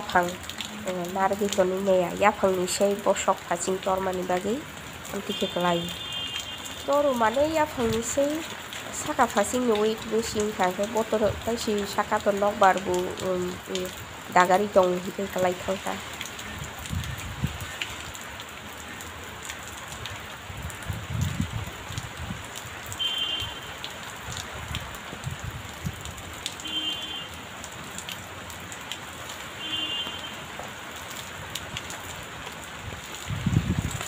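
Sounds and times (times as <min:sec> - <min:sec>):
rain on paved terrace: 0:00.0 - 0:34.0.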